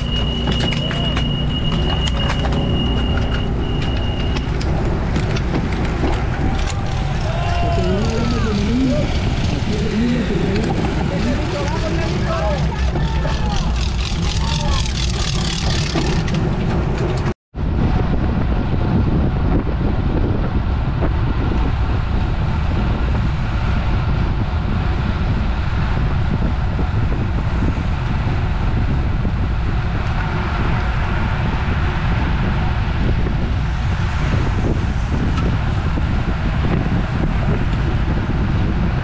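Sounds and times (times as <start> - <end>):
low road rumble: 0.0 - 39.0
wind buffeting microphone: 0.0 - 39.0.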